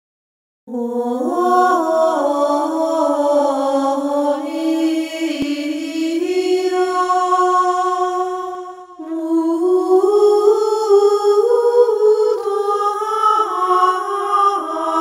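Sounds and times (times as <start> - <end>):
woman singing unaccompanied chant: 0.7 - 15.0.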